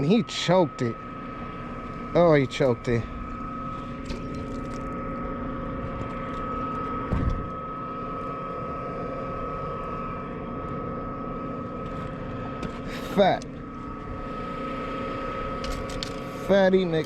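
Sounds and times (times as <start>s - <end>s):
motor hum with high whine: 0.0s - 17.0s.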